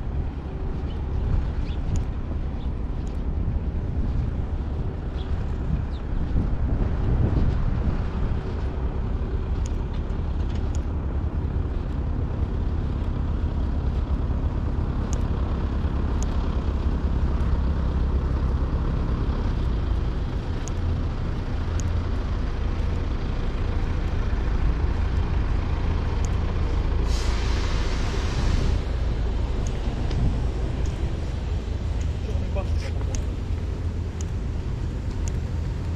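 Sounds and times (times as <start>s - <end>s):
low engine rumble: 0.0s - 35.9s.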